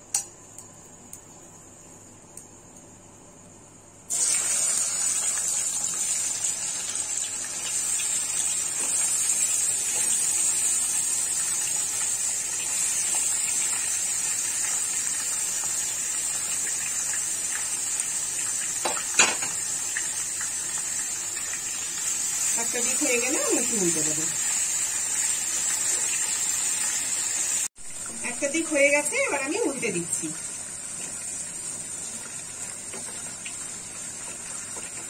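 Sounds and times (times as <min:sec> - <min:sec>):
chicken sizzling in hot oil: 0:04.1 - 0:35.0.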